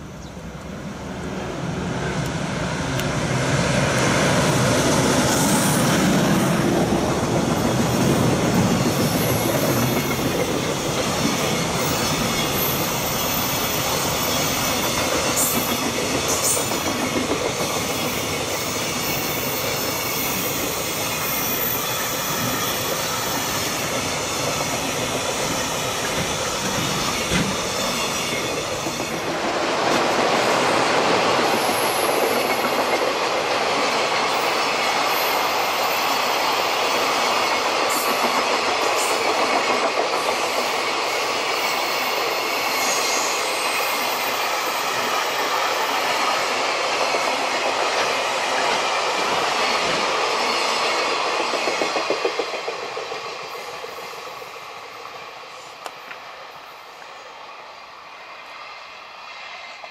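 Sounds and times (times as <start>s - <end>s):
freight train rail noise: 0.0s - 59.9s.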